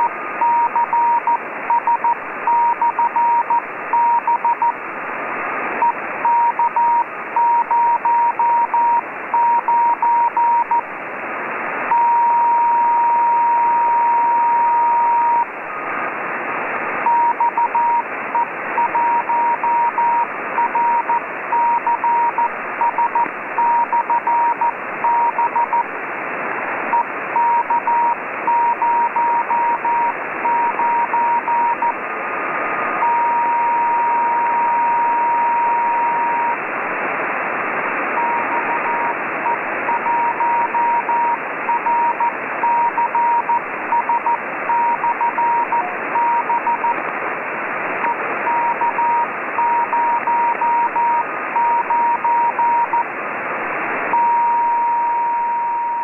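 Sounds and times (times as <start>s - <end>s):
morse code tone: 0.0s - 4.8s, 5.8s - 10.8s, 11.9s - 15.5s, 17.0s - 25.8s, 26.9s - 32.0s, 33.0s - 36.6s, 38.2s - 47.0s, 48.0s - 53.1s, 54.1s - 56.0s
radio band hiss: 0.0s - 56.0s.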